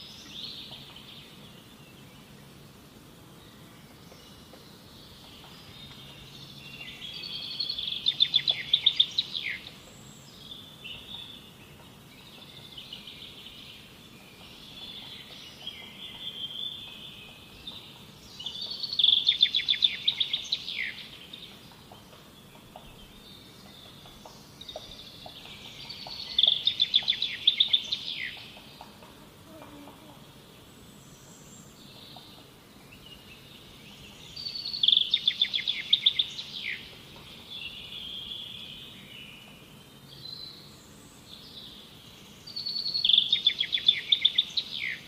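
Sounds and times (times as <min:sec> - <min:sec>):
background ambience: 0:00.0 - 0:45.0
bird trilling song: 0:03.8 - 0:29.0, 0:31.2 - 0:40.7, 0:42.4 - 0:45.0.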